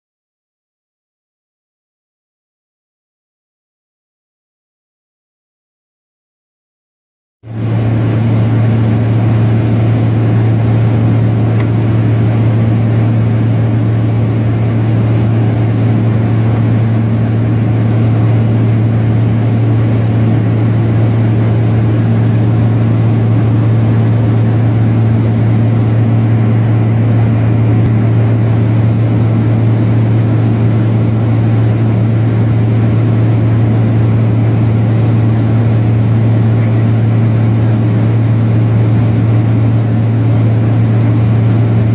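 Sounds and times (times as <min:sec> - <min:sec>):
aircraft engines droning: 0:07.5 - 0:41.9.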